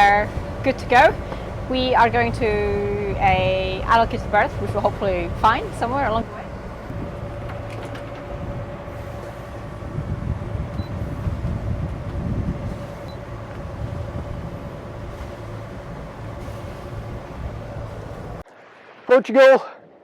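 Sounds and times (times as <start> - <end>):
wind buffeting microphone: 0.0 - 18.4
boat engine humming: 0.0 - 18.5.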